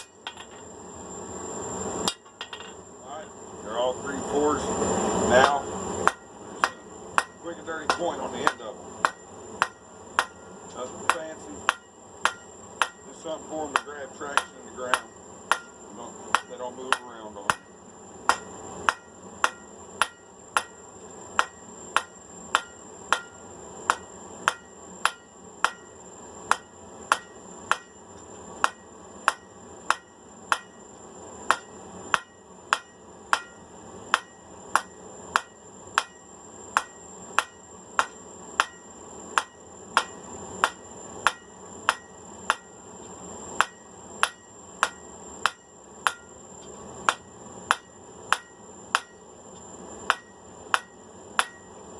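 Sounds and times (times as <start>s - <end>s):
hammer striking steel on anvil: 0.0s - 0.6s, 2.0s - 2.8s, 5.4s - 20.8s, 21.4s - 28.0s, 28.6s - 30.8s, 31.5s - 42.8s, 43.6s - 46.4s, 47.0s - 49.2s, 50.1s - 51.8s.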